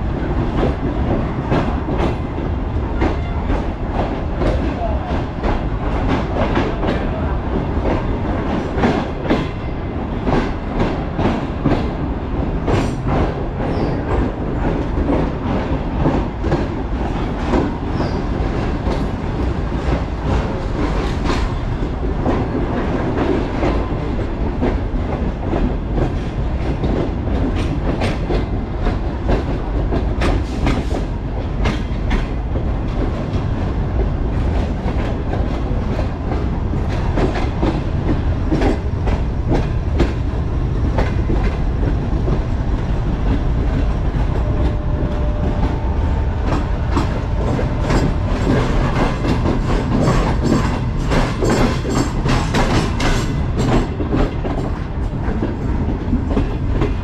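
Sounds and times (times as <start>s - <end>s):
train wheels rumbling on track: 0.0s - 57.0s
wheels clacking over rail joints: 0.3s - 57.0s.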